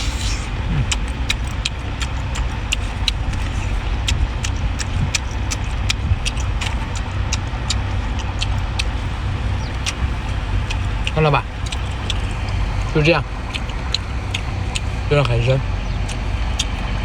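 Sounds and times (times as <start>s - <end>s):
low motor rumble: 0.0s - 17.0s.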